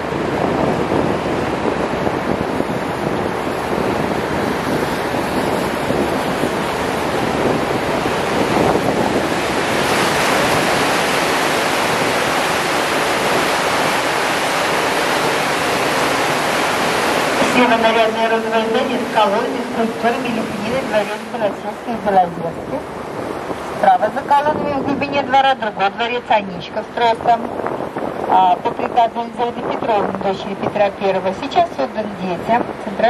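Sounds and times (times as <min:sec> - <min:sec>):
wind rushing: 0:00.0 - 0:31.1
water wash from boat: 0:00.0 - 0:33.0.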